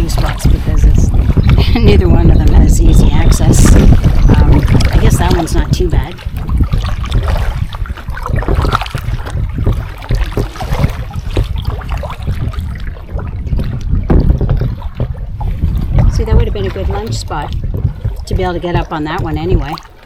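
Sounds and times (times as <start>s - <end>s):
paddle splashing in water: 0.0s - 20.0s
wind rumble on microphone: 0.0s - 20.0s
water dripping off paddle: 2.4s - 20.0s.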